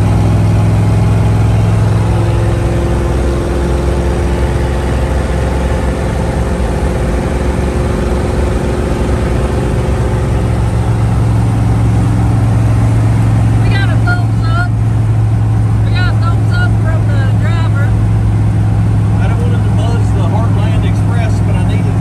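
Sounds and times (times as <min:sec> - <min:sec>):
low engine drone: 0:00.0 - 0:22.0
road and wind noise: 0:00.0 - 0:22.0.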